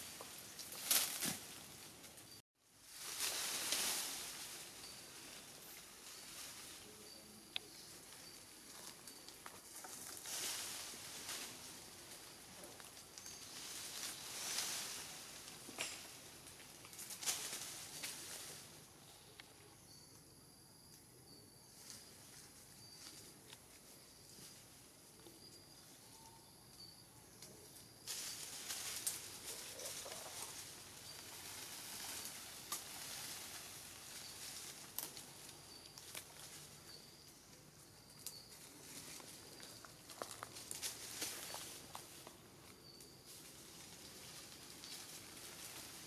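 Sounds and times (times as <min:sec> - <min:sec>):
leaves and branches rustling: 0:00.0 - 0:46.0.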